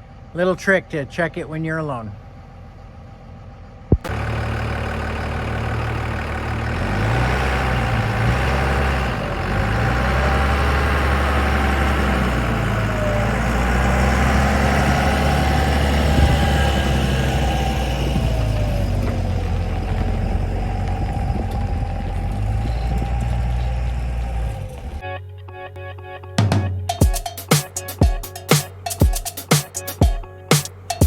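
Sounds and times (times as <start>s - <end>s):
truck engine droning: 0.0s - 25.0s.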